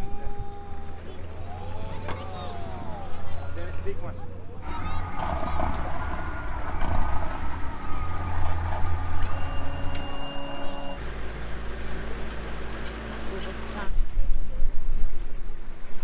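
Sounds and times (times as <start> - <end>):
boat engine droning: 0.0 - 14.4.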